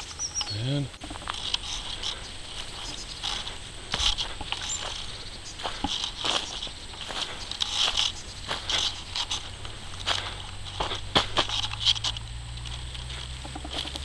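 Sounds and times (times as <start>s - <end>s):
footsteps crunching on leaves: 0.0s - 14.0s
insects chirring: 0.0s - 14.0s.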